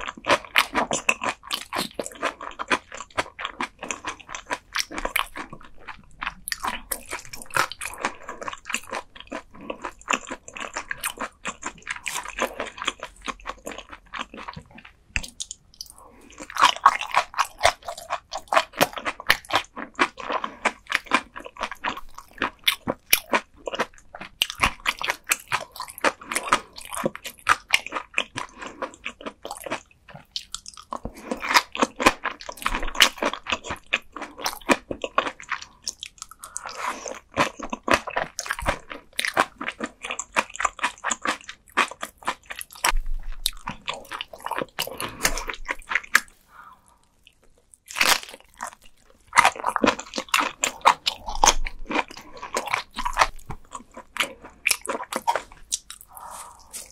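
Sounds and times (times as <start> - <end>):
crunchy chewing of raw fish: 0.0 - 56.9.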